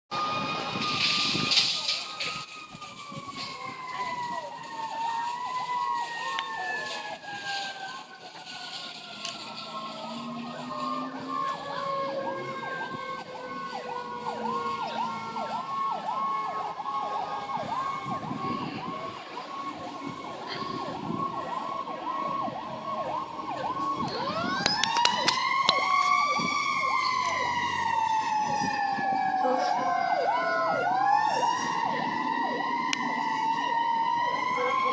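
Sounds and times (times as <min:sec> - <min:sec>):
wailing siren: 0:00.1 - 0:34.9
yelping siren: 0:00.1 - 0:34.9.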